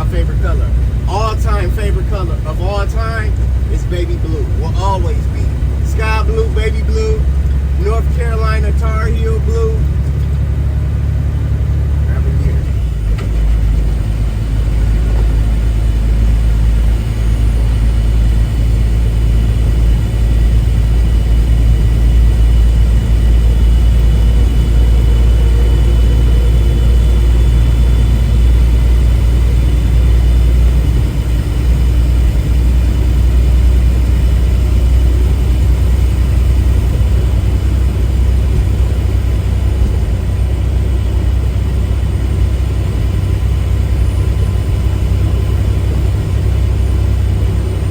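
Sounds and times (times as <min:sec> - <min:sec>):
truck cab engine and road drone: 0:00.0 - 0:47.9.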